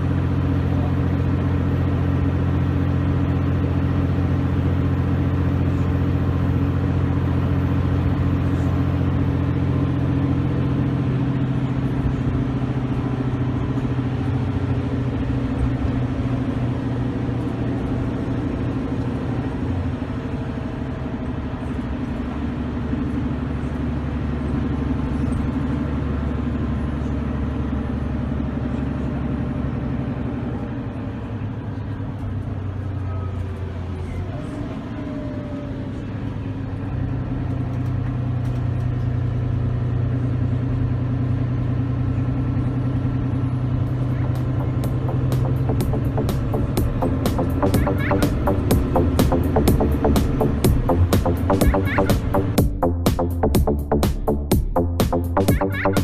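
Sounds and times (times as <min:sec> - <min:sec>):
diesel bus engine running: 0:00.0 - 0:56.0
faint turbo whine: 0:00.0 - 0:56.0.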